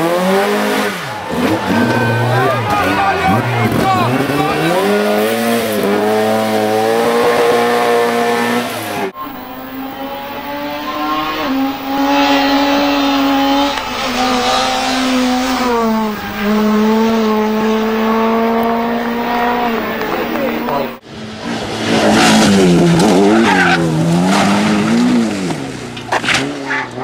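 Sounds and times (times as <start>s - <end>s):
car accelerating through gear changes: 0.0s - 25.6s
rally car engine at high revs: 0.0s - 27.0s.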